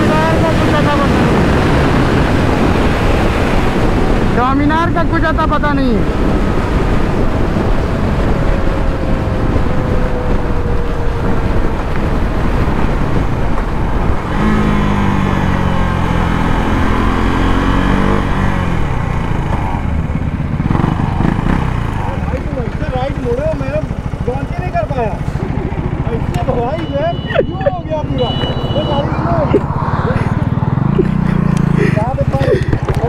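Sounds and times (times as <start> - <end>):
wind rush: 0.0 - 22.0, 27.2 - 33.0.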